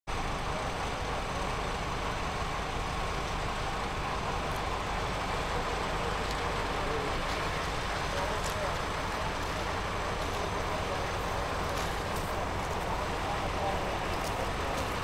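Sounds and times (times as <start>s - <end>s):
steady background rumble and hiss: 0.1s - 15.0s.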